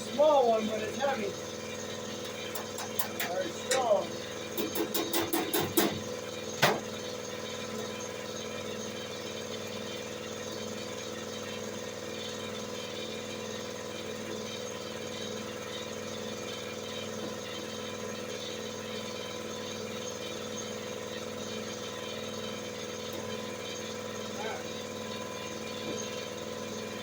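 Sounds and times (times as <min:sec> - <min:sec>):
motor humming: 0:00.0 - 0:27.0.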